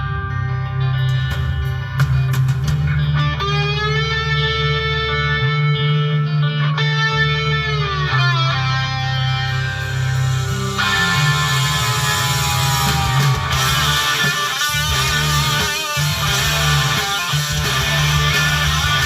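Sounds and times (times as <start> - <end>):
electric guitar instrumental music: 0.0 - 19.0
steady low bass: 0.0 - 19.0.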